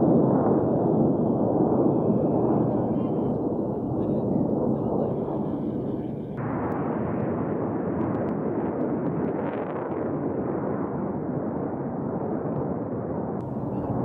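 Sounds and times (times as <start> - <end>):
jet engine roar overhead: 0.0 - 14.0.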